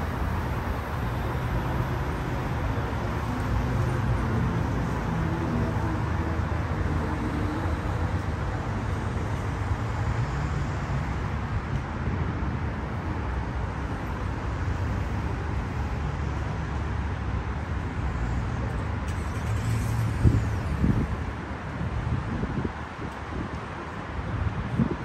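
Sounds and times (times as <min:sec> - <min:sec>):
highway traffic noise: 0:00.0 - 0:25.0.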